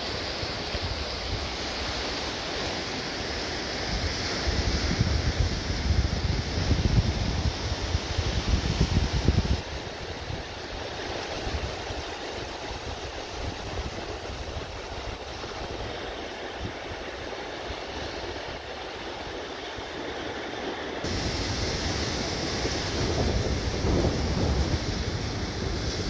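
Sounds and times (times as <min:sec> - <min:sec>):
waves washing on beach: 0:00.0 - 0:26.0
wind rumbling on microphone: 0:00.0 - 0:26.0.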